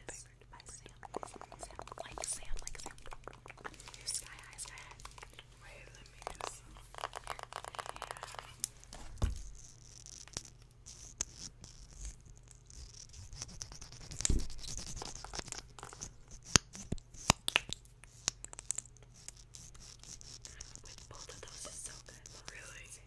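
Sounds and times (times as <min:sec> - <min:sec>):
scratching and tapping on objects: 0:00.0 - 0:22.8.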